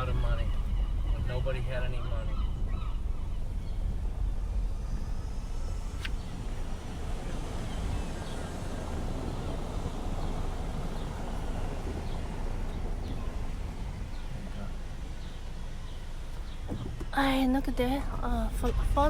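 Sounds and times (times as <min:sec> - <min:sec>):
outdoor noise: 0:00.0 - 0:19.0
wind buffeting microphone: 0:00.0 - 0:19.0.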